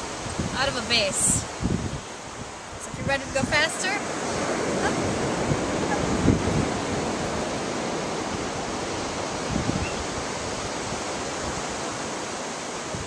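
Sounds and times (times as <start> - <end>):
ocean surf rushing: 0.0 - 13.0
wind buffeting microphone: 0.0 - 13.0.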